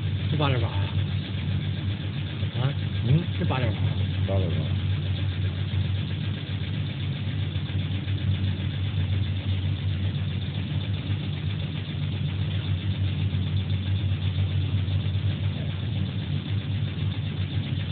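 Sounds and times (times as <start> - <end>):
machinery humming: 0.0 - 17.9.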